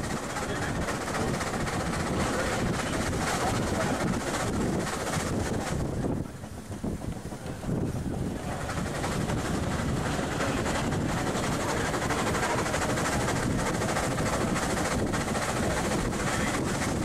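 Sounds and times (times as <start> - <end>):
road and wind noise: 0.0 - 17.0
steam engine clattering: 0.0 - 17.0.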